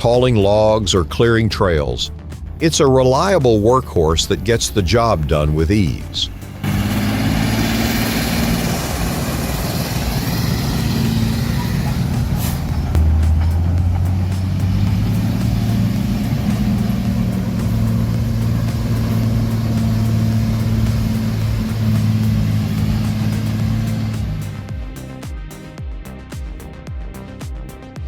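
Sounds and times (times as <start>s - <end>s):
heavy truck engine running: 2.1s - 25.2s.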